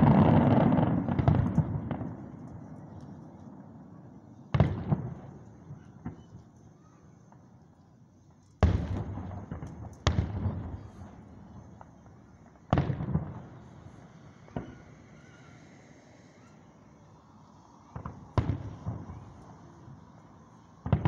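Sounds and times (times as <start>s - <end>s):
fireworks booming: 0.0s - 6.4s, 8.6s - 16.5s, 17.9s - 21.0s.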